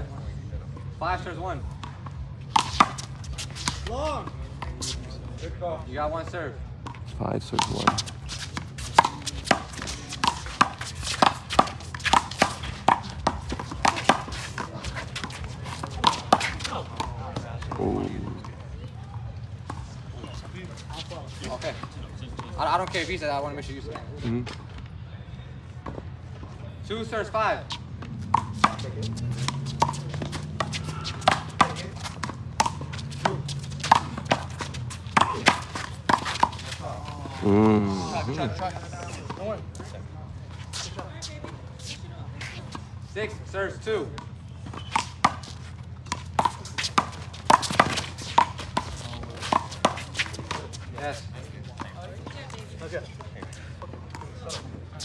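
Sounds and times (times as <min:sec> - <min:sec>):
players' footsteps: 0:00.0 - 0:05.8, 0:06.6 - 0:25.0, 0:25.7 - 0:55.0.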